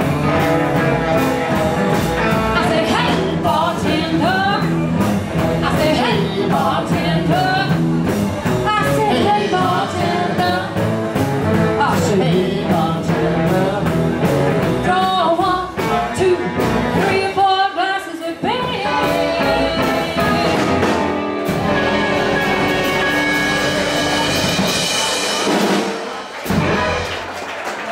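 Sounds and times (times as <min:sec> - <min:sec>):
live band playing: 0:00.0 - 0:27.9
lead and backing vocals: 0:01.0 - 0:25.4.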